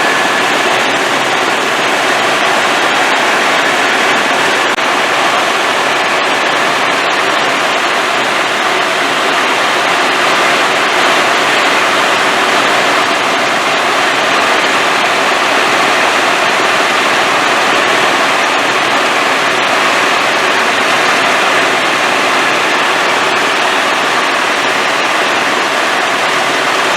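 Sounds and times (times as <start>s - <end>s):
helicopter engine and rotor: 0.0s - 26.9s.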